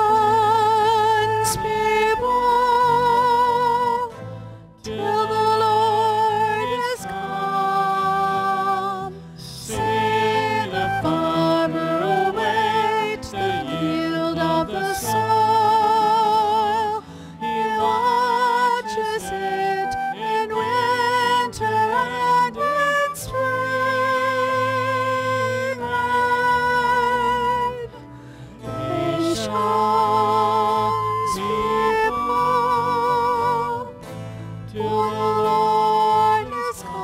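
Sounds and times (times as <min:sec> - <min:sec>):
solo voice singing a hymn: 0:00.0 - 0:04.2, 0:04.8 - 0:37.0
instrumental accompaniment: 0:00.0 - 0:37.0.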